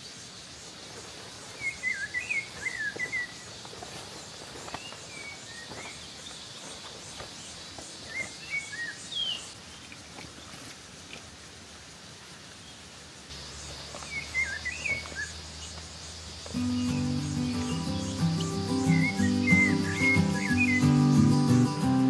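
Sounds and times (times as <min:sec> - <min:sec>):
bird chirping: 0:00.0 - 0:10.6, 0:13.3 - 0:22.0
steady outdoor hiss: 0:00.0 - 0:22.0.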